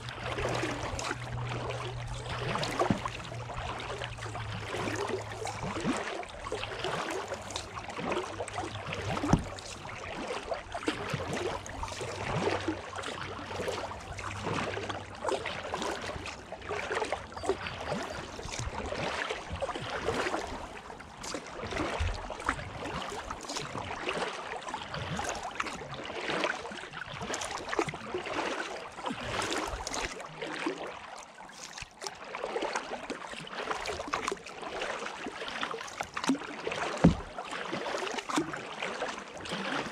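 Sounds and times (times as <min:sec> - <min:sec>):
paddle splashing in water: 0:00.0 - 0:39.9
water moving along hull: 0:00.0 - 0:39.9.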